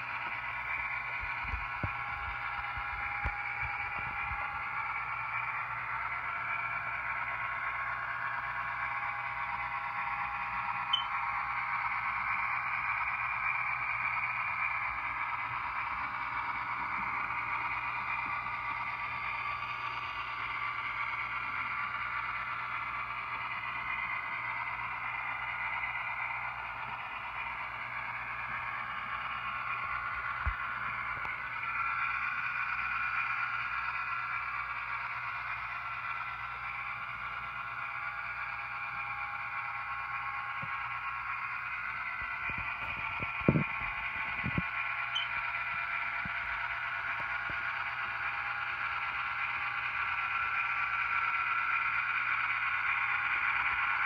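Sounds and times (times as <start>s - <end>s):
model train clicks: 0.0s - 54.0s
model train drone: 0.0s - 54.0s.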